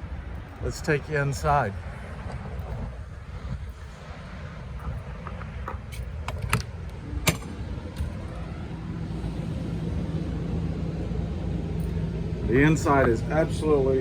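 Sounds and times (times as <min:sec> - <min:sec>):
low outdoor rumble: 0:00.0 - 0:14.0
steady low hum: 0:00.0 - 0:14.0.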